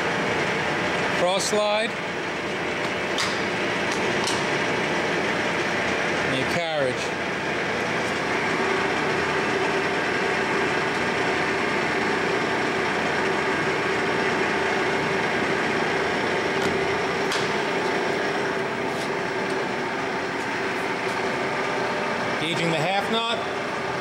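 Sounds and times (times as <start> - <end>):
lathe running with mechanical hum: 0.0 - 24.0.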